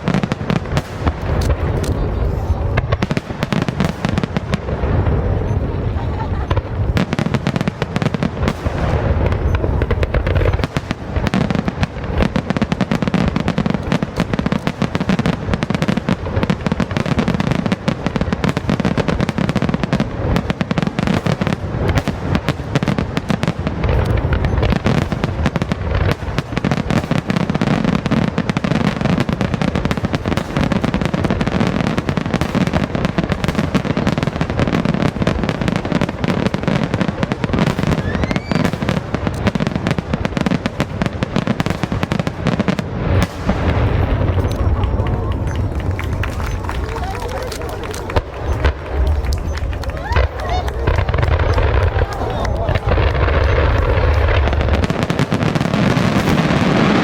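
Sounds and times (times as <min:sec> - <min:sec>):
deep fireworks booms: 0:00.0 - 0:57.0
fireworks bangs and crackle: 0:00.0 - 0:57.0.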